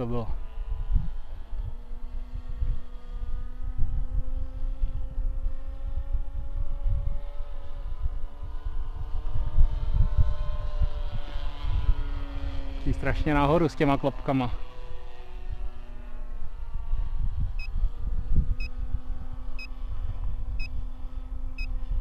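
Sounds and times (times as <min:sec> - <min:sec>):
model plane engine droning: 0:00.0 - 0:22.0
wind buffeting microphone: 0:00.6 - 0:13.5, 0:14.7 - 0:22.0.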